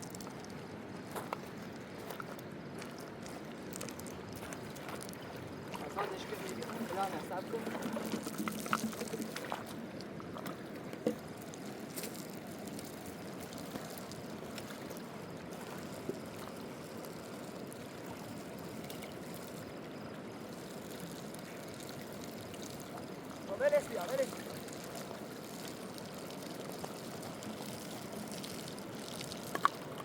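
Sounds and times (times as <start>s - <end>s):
flowing river water: 0.0s - 30.0s.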